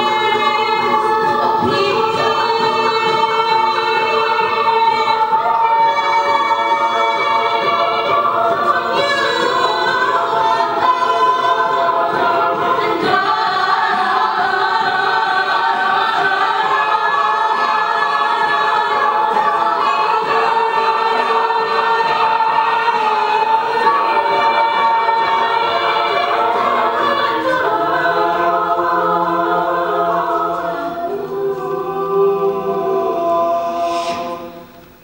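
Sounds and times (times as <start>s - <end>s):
woman singing lead: 0.0s - 34.6s
backing singers holding chords: 0.0s - 35.0s.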